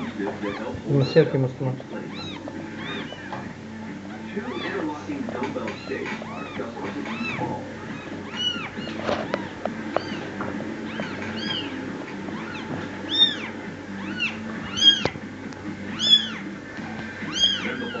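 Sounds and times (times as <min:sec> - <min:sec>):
kittens mewing: 0:00.0 - 0:18.0.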